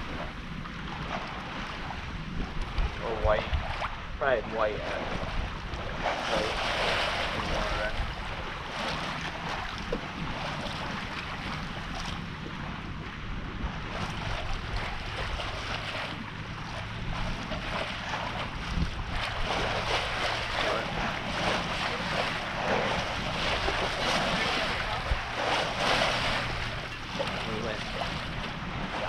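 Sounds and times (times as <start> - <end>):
water washing along hull: 0.0 - 29.0
wind buffeting microphone: 0.0 - 29.0.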